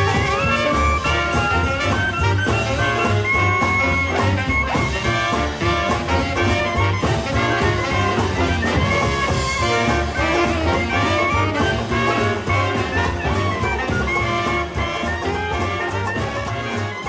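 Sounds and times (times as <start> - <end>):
swing jazz with brass: 0.0 - 17.0.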